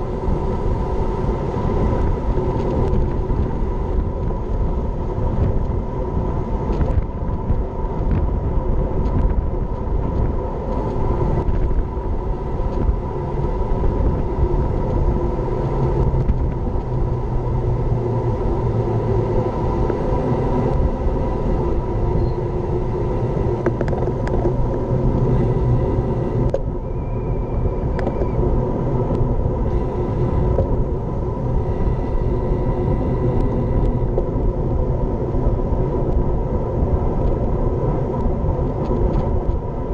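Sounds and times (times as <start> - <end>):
bike tyre rumble: 0.0 - 39.9
wind rush: 0.0 - 39.9.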